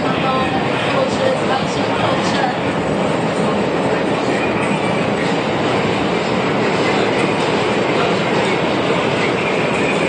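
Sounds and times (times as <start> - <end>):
subway train on rails: 0.0 - 10.0.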